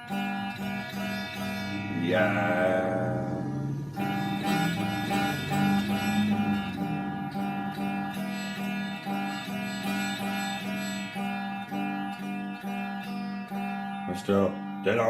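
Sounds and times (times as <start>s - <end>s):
guitar plucked notes: 0.0s - 15.0s.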